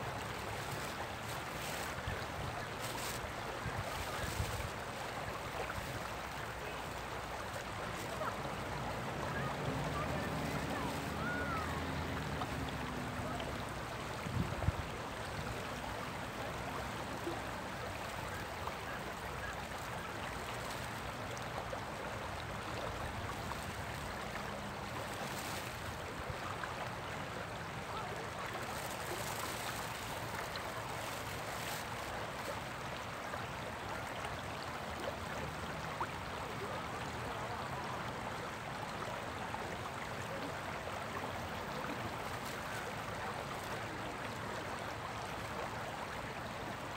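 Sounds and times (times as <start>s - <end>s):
river rushing over rocks: 0.0s - 46.9s.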